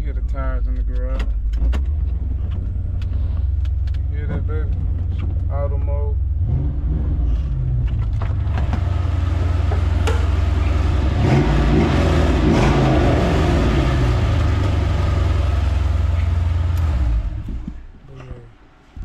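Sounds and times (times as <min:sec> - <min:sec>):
car engine exhaust drone: 0:00.0 - 0:18.0.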